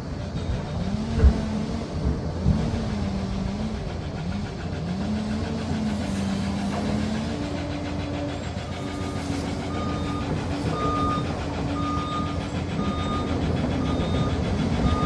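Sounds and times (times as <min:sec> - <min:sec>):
crawler dozer engine: 0:00.0 - 0:15.0.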